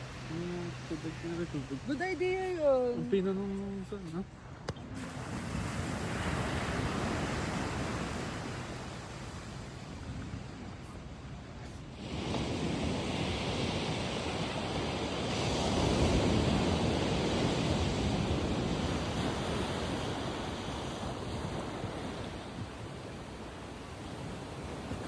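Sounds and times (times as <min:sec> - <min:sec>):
ocean wave breaking: 0:00.0 - 0:11.0, 0:11.7 - 0:25.0.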